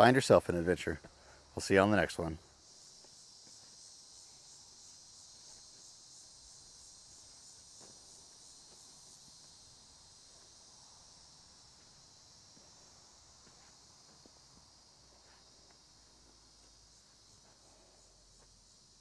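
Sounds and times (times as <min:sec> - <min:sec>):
insect chirring: 0:00.0 - 0:19.0.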